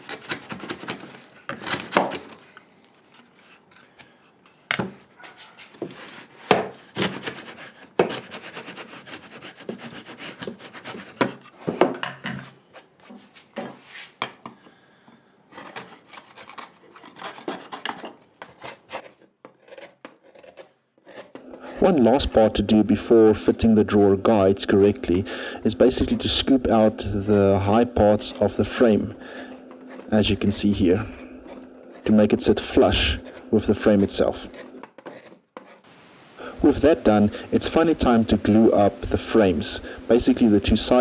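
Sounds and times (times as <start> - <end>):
hand tools scraping wood: 0.0 - 14.6, 15.5 - 41.0.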